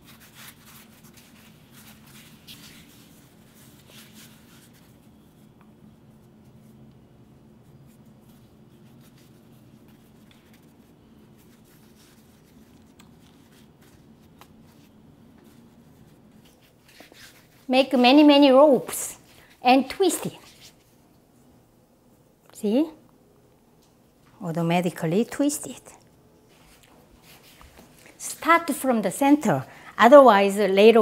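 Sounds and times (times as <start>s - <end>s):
hands rubbing dough: 0.0s - 21.4s, 26.5s - 30.4s
low steady hum: 0.0s - 31.0s.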